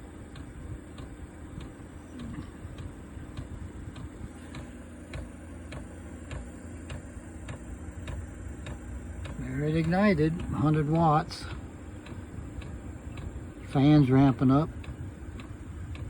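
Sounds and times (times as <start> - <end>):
fuel pump ticking: 0.0 - 16.0
heater fan hum: 0.0 - 16.0.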